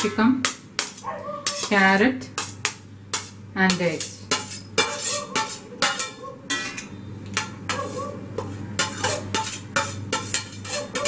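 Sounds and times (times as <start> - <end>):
utensil scraping and knocking on pan: 0.0 - 11.0.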